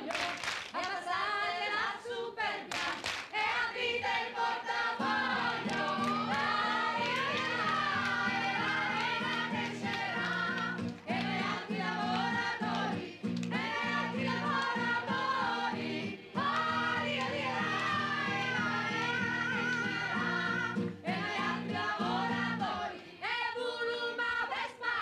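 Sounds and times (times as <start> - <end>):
voices singing in parts: 0.0 - 25.0.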